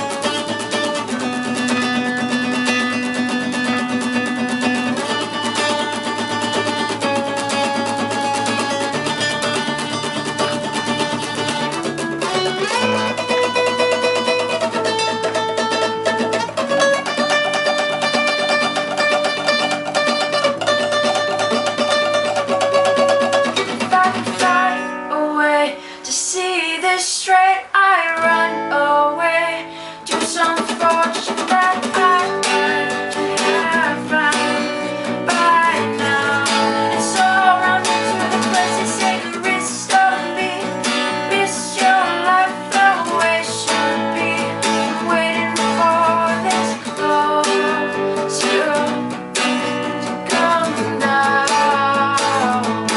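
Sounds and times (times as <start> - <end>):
rock band with guitars: 0.0 - 24.8, 30.0 - 52.9.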